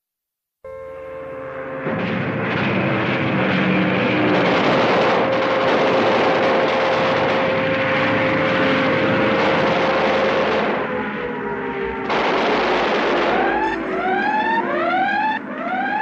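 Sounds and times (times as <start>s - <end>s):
propeller aircraft engine droning: 0.8s - 16.0s.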